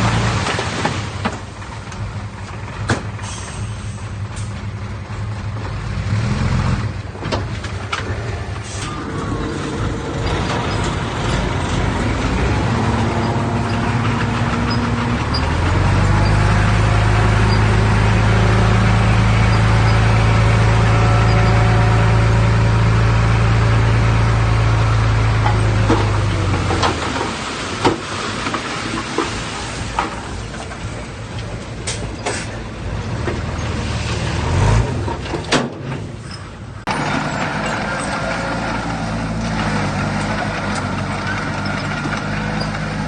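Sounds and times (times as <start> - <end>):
diesel machinery running: 0.0 - 43.0.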